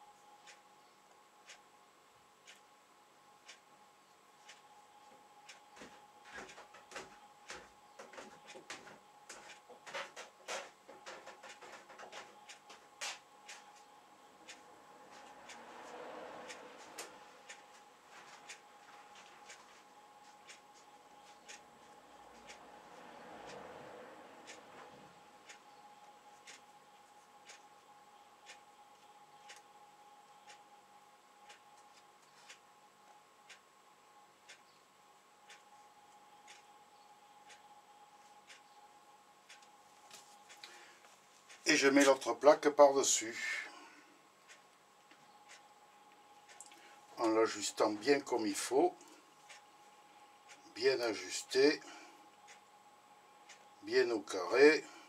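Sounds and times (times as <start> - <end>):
faint steady hum: 0.0 - 55.0
clock ticking: 1.4 - 1.7, 2.4 - 2.7, 3.4 - 3.8, 4.4 - 33.8, 34.4 - 38.8, 39.4 - 40.9, 44.4 - 49.8, 50.4 - 54.9.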